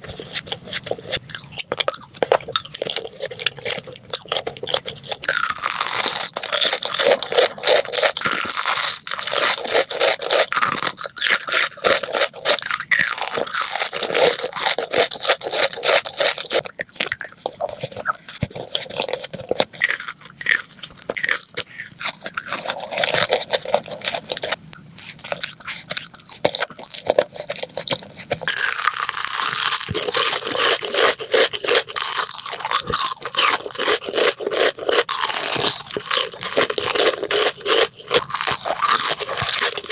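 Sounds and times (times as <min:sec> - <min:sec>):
crunchy chewing of candy: 0:00.0 - 0:39.9.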